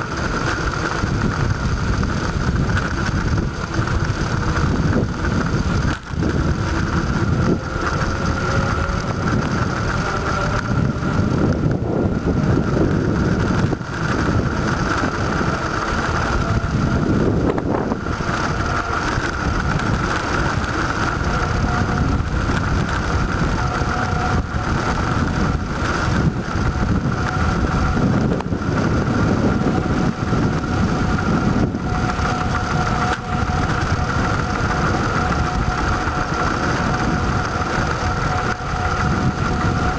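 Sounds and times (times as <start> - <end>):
constant high whine: 0.0 - 39.9
wind rushing over microphone: 0.0 - 39.9.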